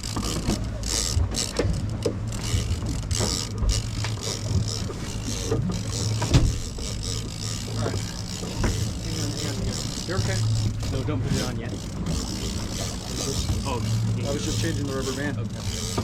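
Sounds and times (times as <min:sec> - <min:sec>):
boat engine drone: 0:00.0 - 0:16.0
fishing reel gears clicking: 0:00.0 - 0:16.0.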